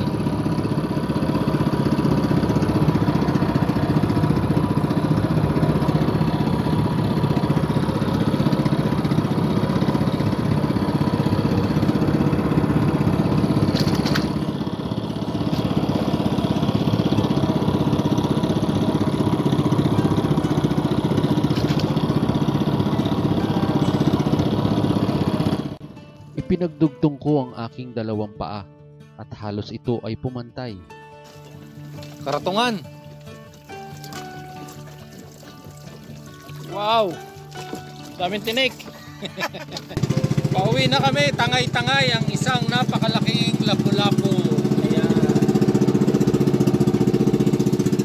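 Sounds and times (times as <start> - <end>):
small engine running: 0.0 - 25.9, 31.2 - 48.0.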